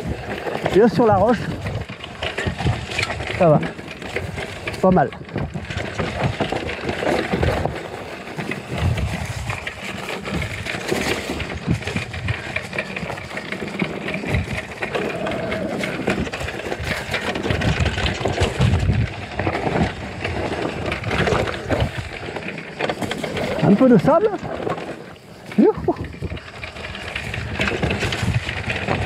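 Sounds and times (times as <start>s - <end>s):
bike rattling: 0.0s - 29.0s
tyres crunching over dirt and stones: 0.0s - 29.0s.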